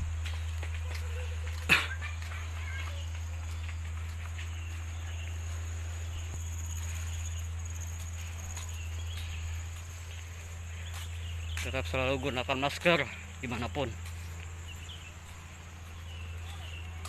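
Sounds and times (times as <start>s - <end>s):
insects chirring: 0.0s - 17.0s
steady low hum: 0.0s - 17.0s.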